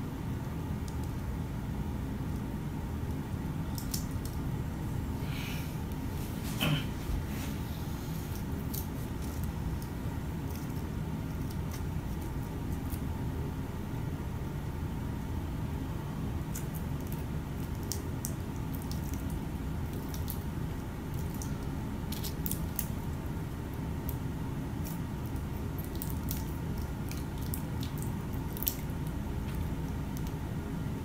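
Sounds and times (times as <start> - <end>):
low room rumble: 0.0 - 31.0.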